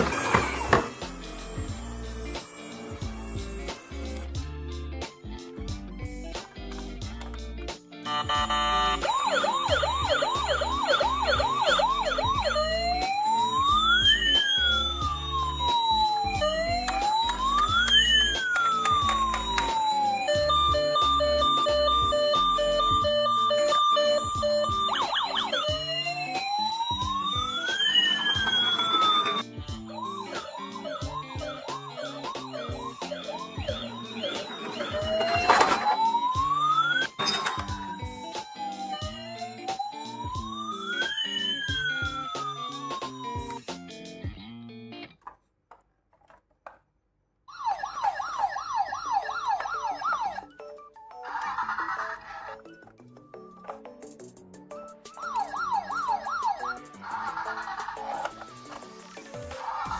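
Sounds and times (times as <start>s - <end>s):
emergency siren: 0.0s - 4.3s, 8.1s - 43.7s, 47.5s - 52.7s, 54.7s - 59.9s
background music: 0.0s - 45.0s, 47.9s - 59.9s.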